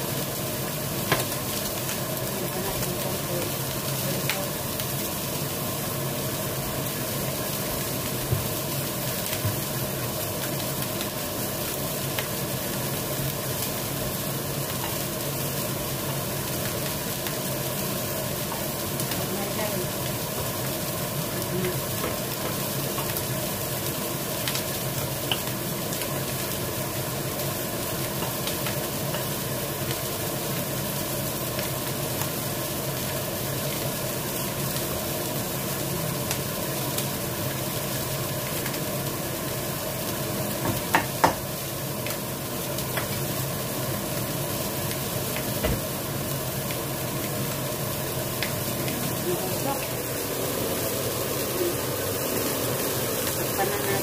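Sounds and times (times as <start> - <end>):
noodles sizzling in a pan: 0.0 - 54.0.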